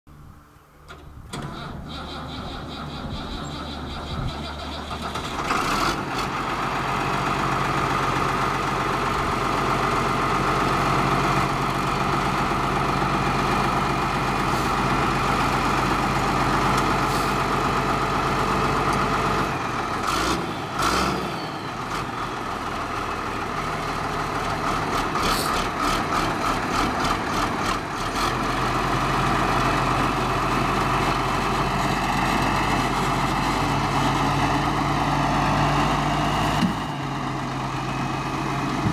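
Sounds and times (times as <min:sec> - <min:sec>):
diesel tractor engine idling: 0:00.1 - 0:38.9.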